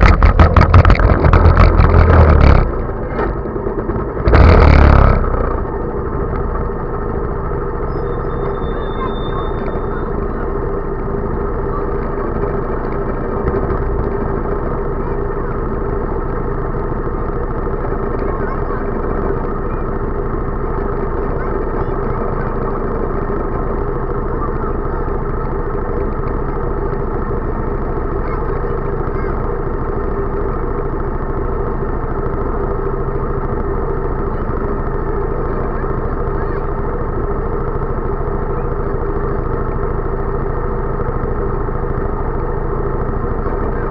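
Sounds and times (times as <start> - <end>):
go-kart engine idling: 0.0 - 43.9.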